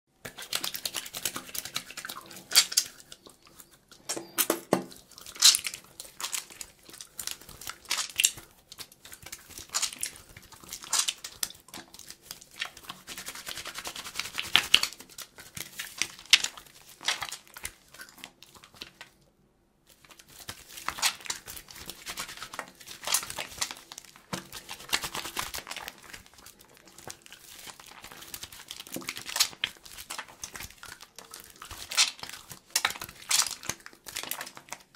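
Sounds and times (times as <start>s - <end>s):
soapy hands rubbing: 0.2s - 4.1s, 4.9s - 19.2s, 19.9s - 34.9s.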